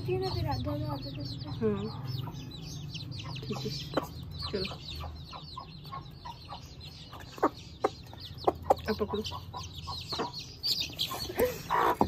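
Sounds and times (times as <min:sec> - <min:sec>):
chicks peeping: 0:00.0 - 0:12.0
hen clucking: 0:01.0 - 0:12.0.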